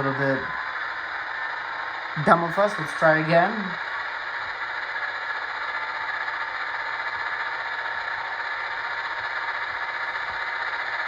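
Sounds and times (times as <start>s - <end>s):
model diesel engine sound through small speaker: 0.0s - 11.0s.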